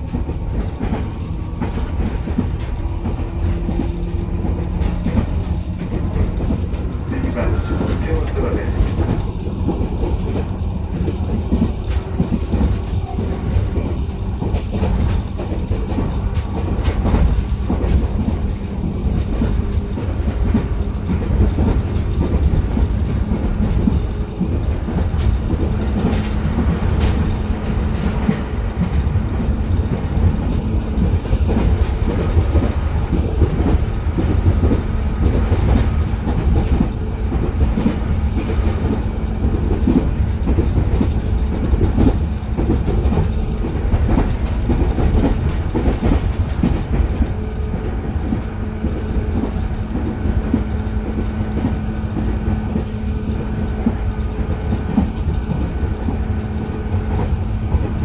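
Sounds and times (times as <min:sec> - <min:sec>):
rail-joint clicks: 0:00.0 - 0:58.0
wheels rumbling on rail: 0:00.0 - 0:58.0.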